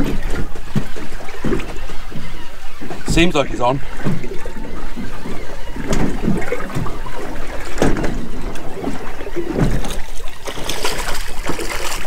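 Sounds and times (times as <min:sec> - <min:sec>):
waves slapping boat hull: 0:00.0 - 0:12.0.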